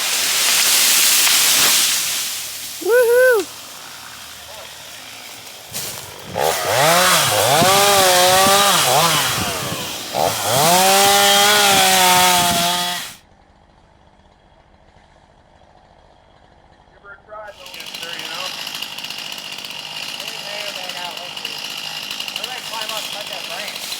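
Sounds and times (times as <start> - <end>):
chainsaw revving: 0.0 - 13.2, 17.5 - 23.9.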